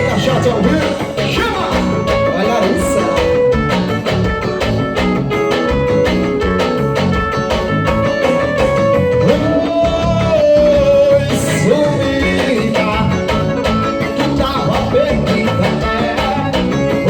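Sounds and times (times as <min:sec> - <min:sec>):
live band playing: 0:00.0 - 0:17.0
sliding lead melody: 0:00.0 - 0:17.0
steady driving beat: 0:00.0 - 0:17.0.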